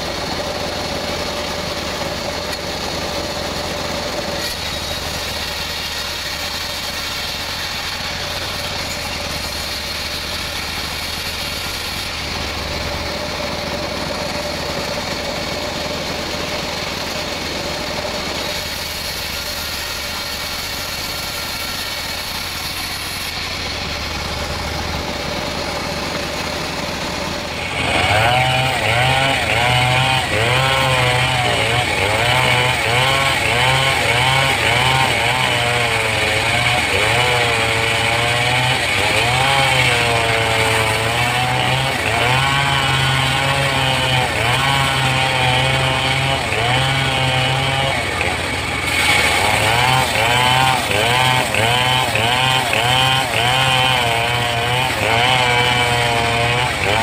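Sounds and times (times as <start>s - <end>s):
band saw running: 0.0s - 57.0s
chainsaw revving: 0.0s - 57.0s.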